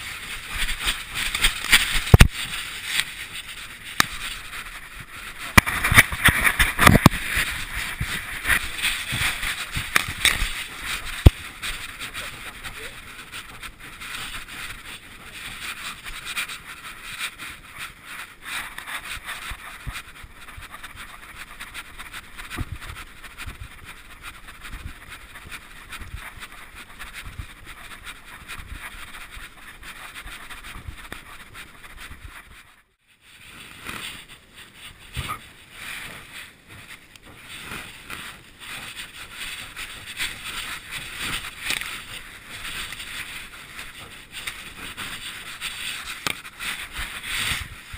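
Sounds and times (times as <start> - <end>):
camera rubbing on grass: 0.0 - 47.9.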